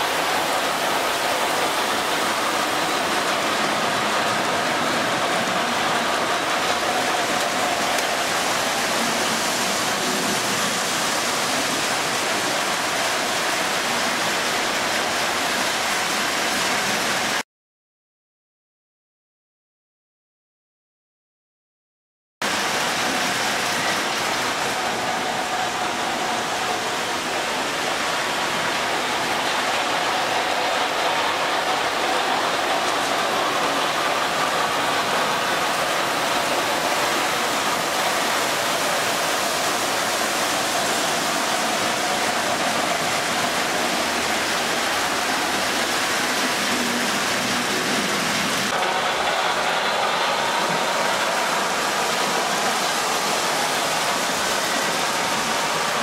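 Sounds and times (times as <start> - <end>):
model trains whirring on rails: 0.0 - 17.4, 22.4 - 56.0.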